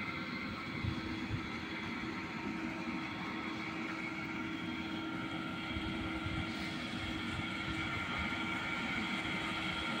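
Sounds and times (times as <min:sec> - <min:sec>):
pump motor humming: 0:00.0 - 0:10.0.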